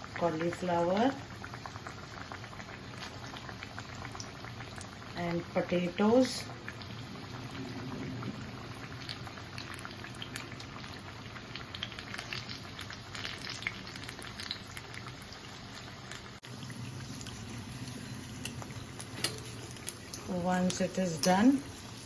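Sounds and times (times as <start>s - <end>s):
food deep-frying in oil: 0.0s - 22.0s.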